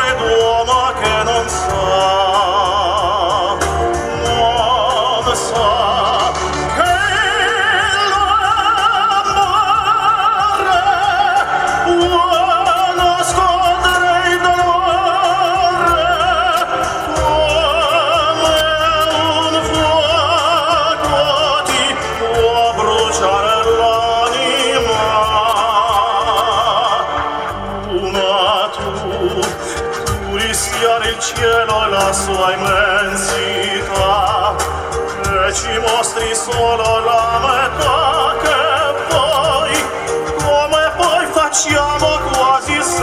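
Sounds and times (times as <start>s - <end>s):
operatic pop ballad with orchestra: 0.0s - 43.0s.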